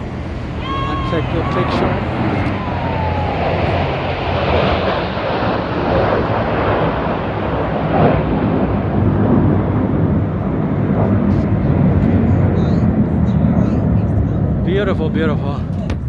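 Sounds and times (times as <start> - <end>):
jet aircraft flying over: 0.0 - 16.0.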